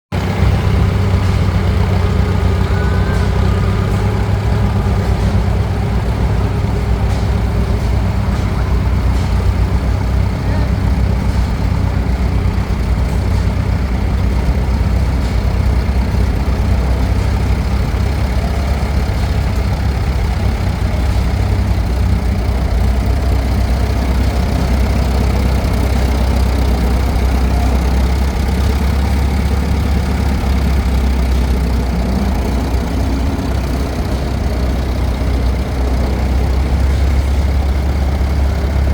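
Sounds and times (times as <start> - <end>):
tractor engine running: 0.1 - 38.9.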